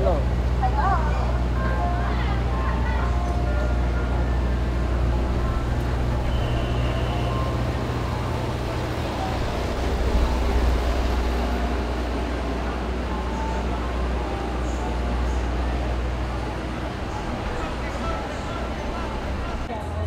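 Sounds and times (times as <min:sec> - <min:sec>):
low engine rumble of traffic: 0:00.0 - 0:20.0.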